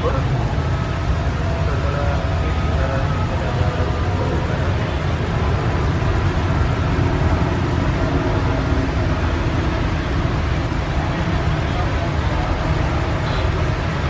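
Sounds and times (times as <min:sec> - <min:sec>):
heavy rain pouring: 0:00.0 - 0:14.0
low rumble: 0:00.0 - 0:14.0.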